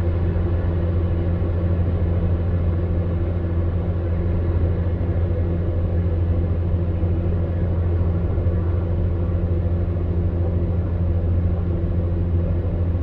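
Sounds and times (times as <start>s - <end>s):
fan heater motor hum: 0.0s - 13.0s.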